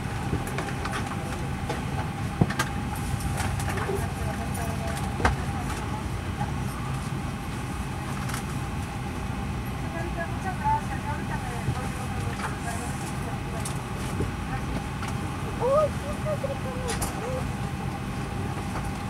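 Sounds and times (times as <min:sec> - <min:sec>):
aircraft cabin rumble: 0:00.0 - 0:19.0.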